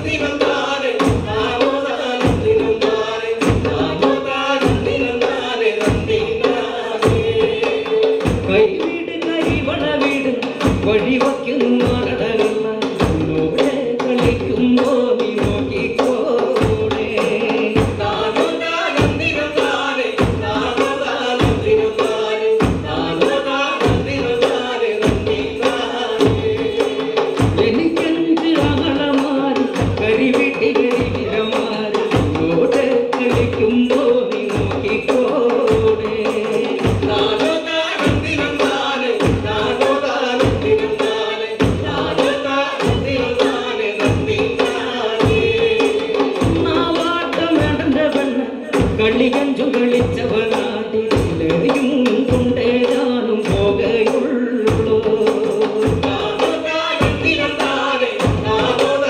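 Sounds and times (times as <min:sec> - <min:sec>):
group singing folk song: 0:00.0 - 0:59.0
hand drums beating: 0:00.0 - 0:59.0.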